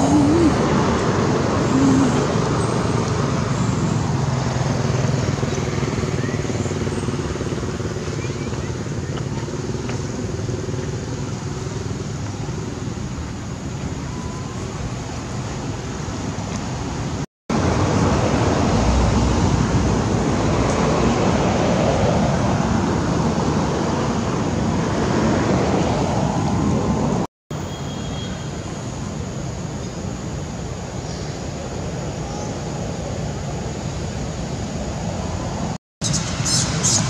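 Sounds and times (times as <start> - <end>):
outdoor background rumble and hiss: 0.0 - 37.0.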